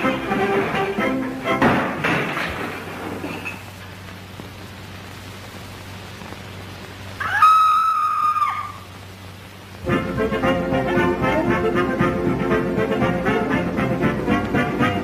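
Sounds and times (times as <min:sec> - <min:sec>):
film track hiss and hum: 0:00.0 - 0:15.0.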